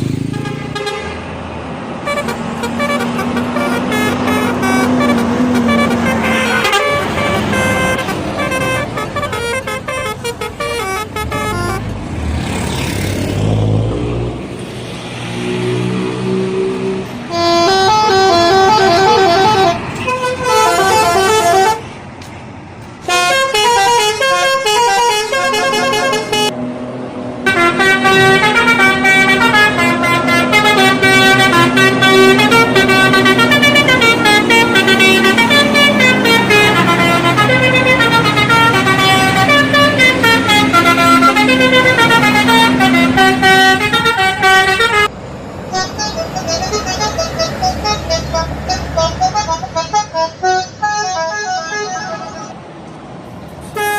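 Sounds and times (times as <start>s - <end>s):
bus air horn melodies: 0.2s - 1.3s, 2.0s - 11.9s, 17.2s - 22.0s, 23.0s - 26.6s, 27.4s - 45.1s, 45.7s - 52.6s, 53.6s - 53.9s.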